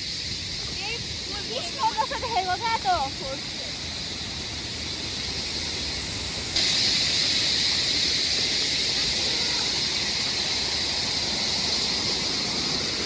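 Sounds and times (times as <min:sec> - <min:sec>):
waterfall rushing: 0:00.4 - 0:13.0.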